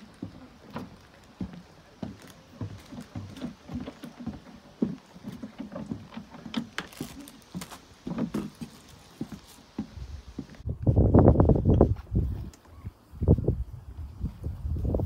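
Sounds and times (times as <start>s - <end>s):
footsteps on wooden boards: 0.0s - 13.0s.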